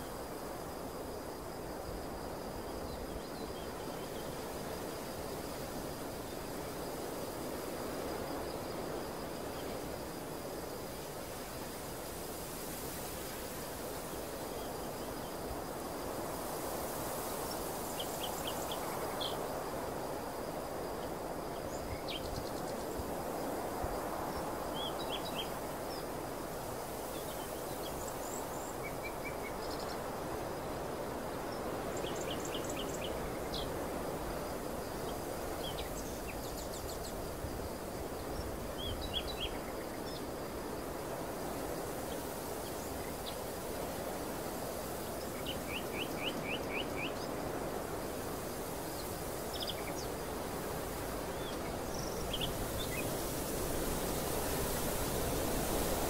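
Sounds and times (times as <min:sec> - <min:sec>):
wind gusting across field: 0:00.0 - 0:56.0.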